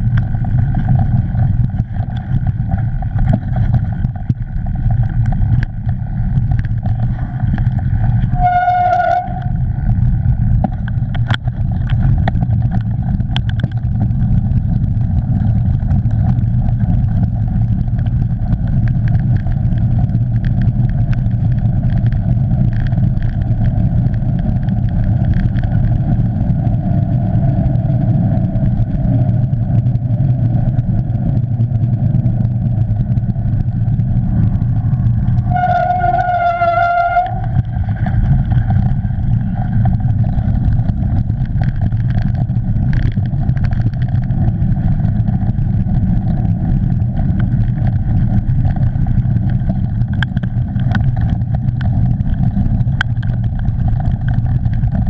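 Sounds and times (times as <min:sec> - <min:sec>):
bike clicks and rattles: 0:00.0 - 0:55.0
bike tyre and wind rumble: 0:00.0 - 0:55.0.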